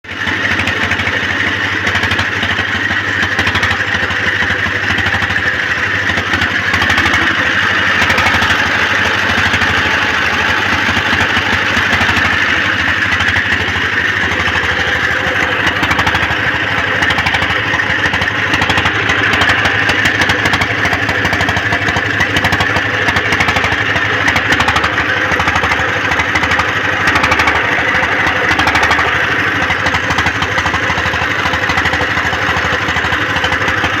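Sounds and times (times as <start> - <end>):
diesel generator engine running: 0.0 - 34.0.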